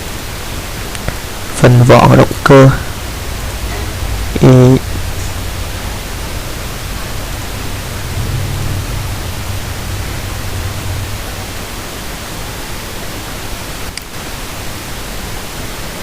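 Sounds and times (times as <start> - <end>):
low hum: 0.0 - 13.8
microphone hiss: 0.0 - 16.0.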